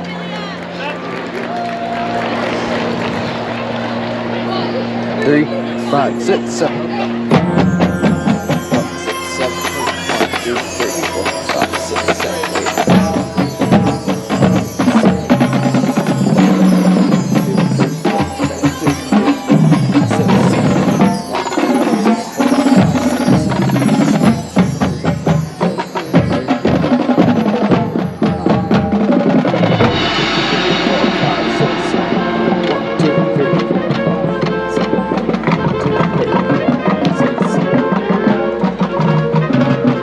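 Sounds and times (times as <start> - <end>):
marching band playing: 0.0 - 40.0
drumline drums and percussion: 5.2 - 40.0.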